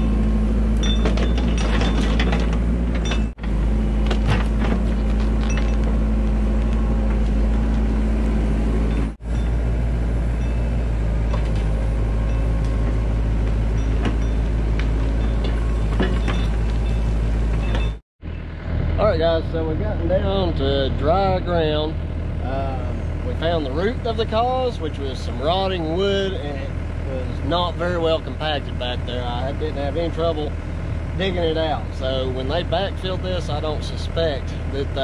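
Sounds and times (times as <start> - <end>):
digging machine engine running: 0.0 - 35.0.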